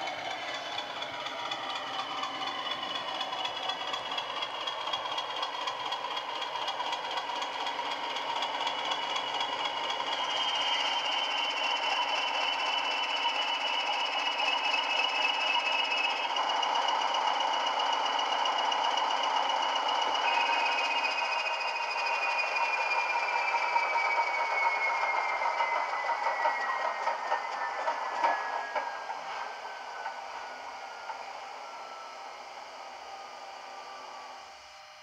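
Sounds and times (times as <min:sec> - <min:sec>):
model locomotive diesel engine sound: 0:00.0 - 0:35.0.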